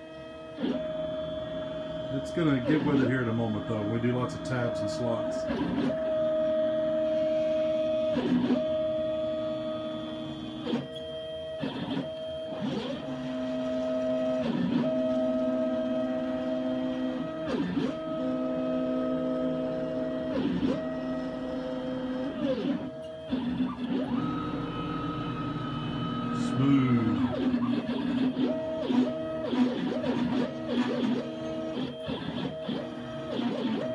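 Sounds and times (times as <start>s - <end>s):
stepper motors whining: 0.0s - 33.9s
router spindle running: 0.2s - 33.9s.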